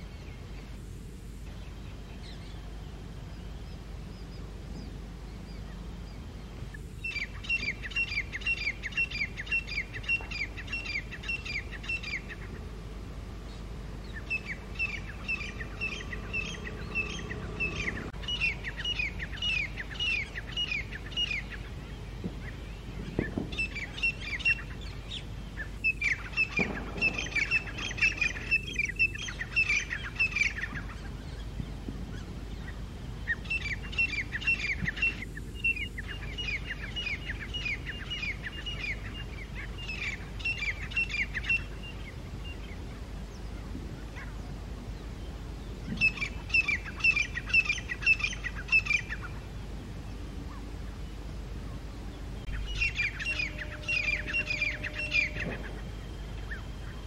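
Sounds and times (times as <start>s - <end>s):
francolins calling: 1.5s - 57.0s.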